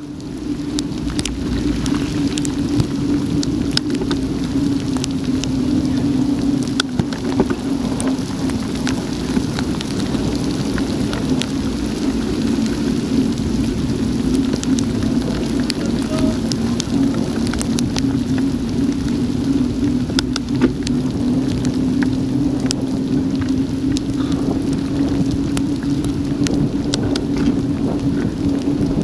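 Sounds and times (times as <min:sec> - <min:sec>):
heavy rain pouring: 0:00.0 - 0:29.0
raindrops ticking on camera: 0:00.0 - 0:29.0
steady low hum: 0:00.0 - 0:29.0.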